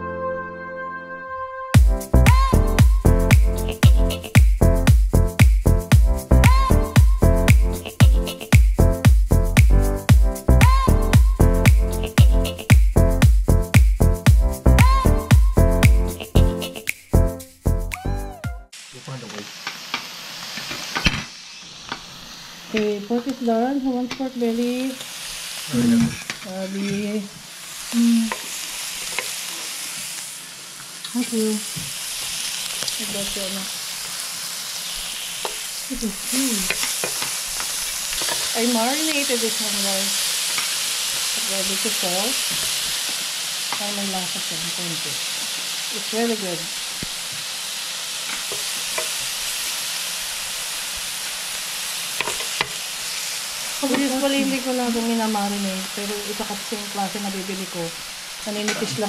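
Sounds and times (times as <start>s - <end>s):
pork sizzling on a grill pan: 2.0s - 16.9s, 18.3s - 59.0s.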